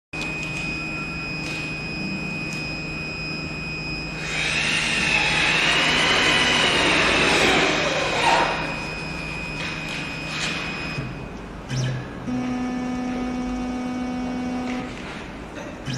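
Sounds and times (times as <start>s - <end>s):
router spindle high whine: 0.2s - 15.2s.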